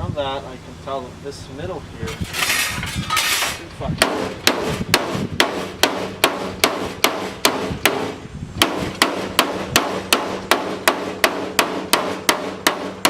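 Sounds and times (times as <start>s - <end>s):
hammer blows on sheet metal: 2.1s - 13.0s.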